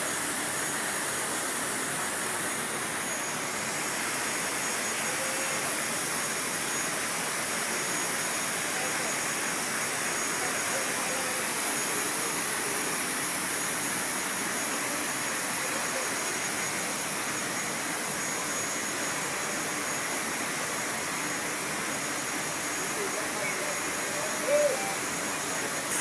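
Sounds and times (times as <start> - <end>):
faint high whine: 0.0 - 26.0
machinery hiss: 0.0 - 26.0.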